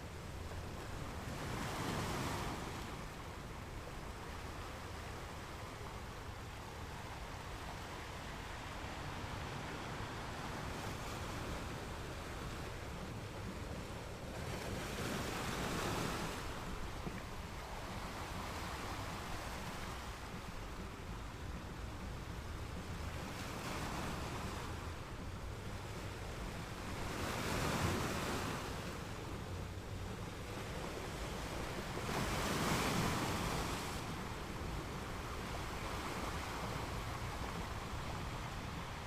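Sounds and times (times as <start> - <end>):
ocean waves breaking on shore: 0.0 - 39.0.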